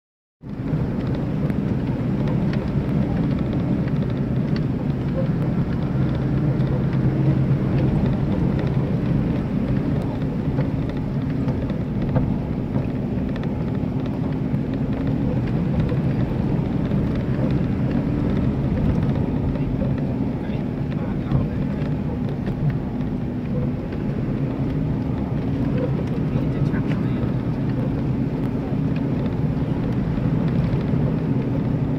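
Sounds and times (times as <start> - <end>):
vehicle engine running: 0.4 - 31.9
small clicks and rattles: 0.5 - 31.9.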